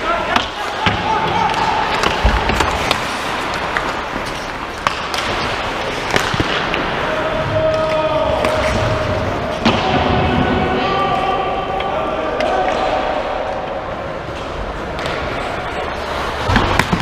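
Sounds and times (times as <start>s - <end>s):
hockey sticks and puck clacking: 0.0s - 17.0s.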